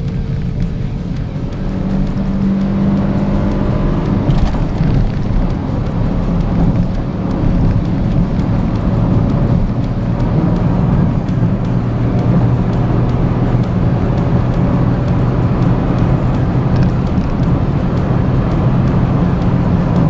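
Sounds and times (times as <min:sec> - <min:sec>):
background music: 0:00.0 - 0:20.0
car engine at high revs: 0:00.0 - 0:20.0
tyre and road noise: 0:00.0 - 0:20.0.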